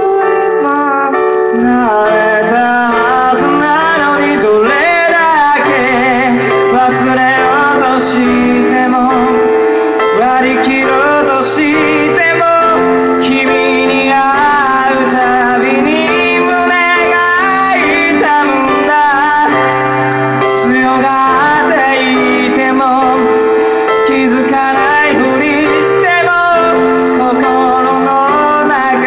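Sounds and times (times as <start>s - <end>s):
electronic keyboard chords: 0.0s - 29.0s
man singing with vibrato: 0.0s - 29.0s.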